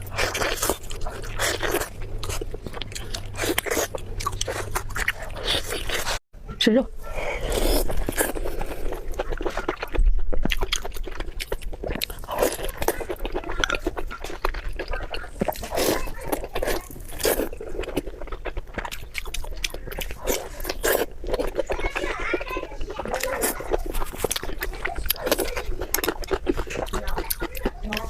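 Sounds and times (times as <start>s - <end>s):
open-mouth chewing: 0.0s - 6.2s, 7.0s - 28.0s.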